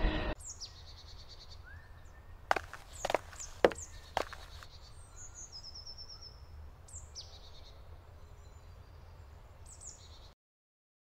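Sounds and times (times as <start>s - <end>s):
songbirds calling: 0.4s - 10.3s.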